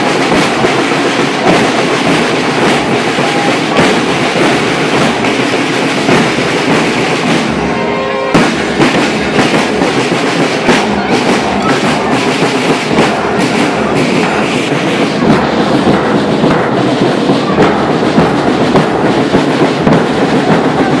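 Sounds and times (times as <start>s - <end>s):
marching band drums and cymbals: 0.0s - 21.0s.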